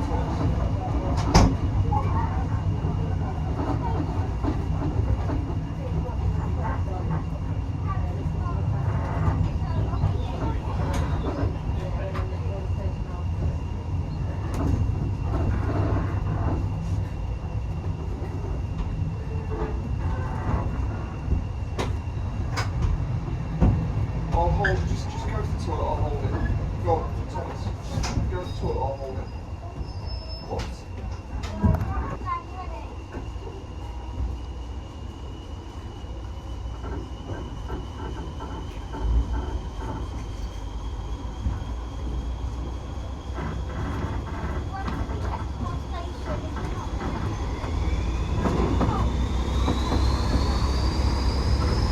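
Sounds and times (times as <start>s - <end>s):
railway coach rumbling on track: 0.0s - 51.9s.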